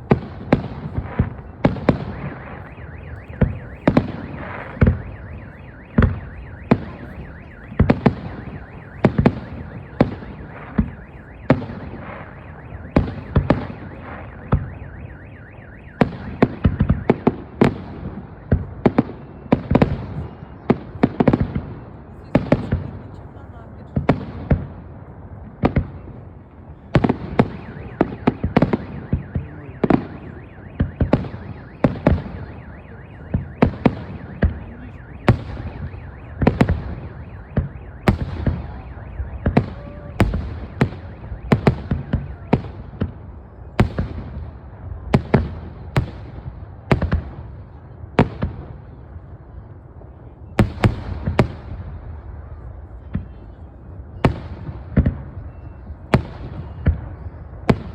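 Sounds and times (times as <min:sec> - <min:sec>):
fireworks bursting: 0:00.0 - 0:23.2, 0:23.8 - 0:49.2.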